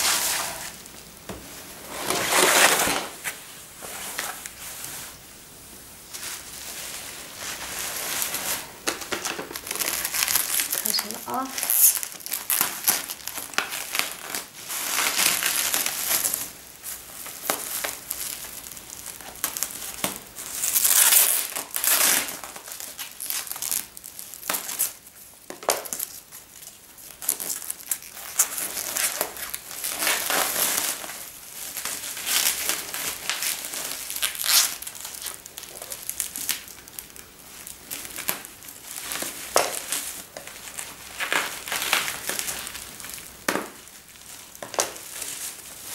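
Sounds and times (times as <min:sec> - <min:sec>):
bubble wrap crinkling: 0:00.0 - 0:45.9.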